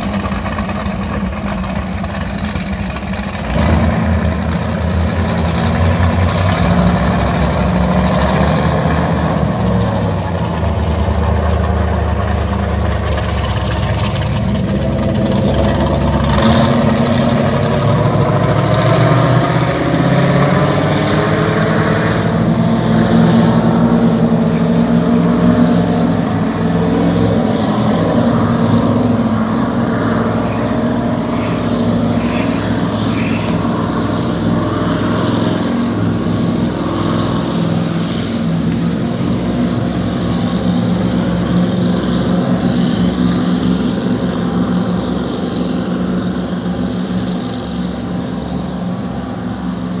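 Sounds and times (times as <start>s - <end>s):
speedboat engines droning: 0.0s - 50.0s.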